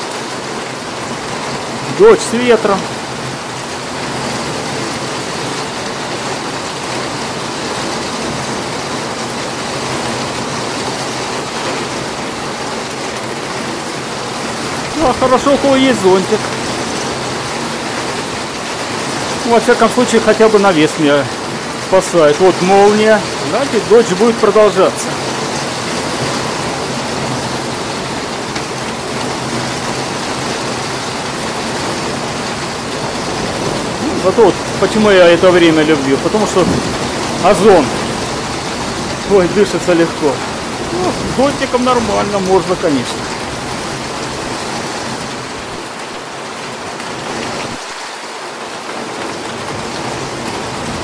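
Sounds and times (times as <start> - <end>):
heavy rain on paving: 0.0 - 51.0.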